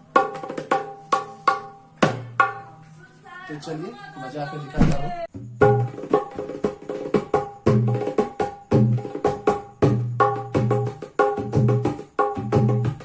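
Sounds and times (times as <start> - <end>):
dholak drum rhythm: 0.0 - 2.8, 4.8 - 13.0.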